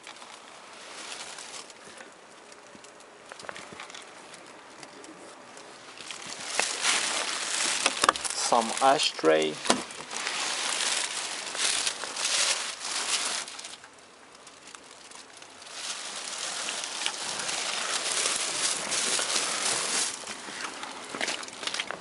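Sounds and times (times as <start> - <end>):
plastic film rustling: 0.0 - 22.0.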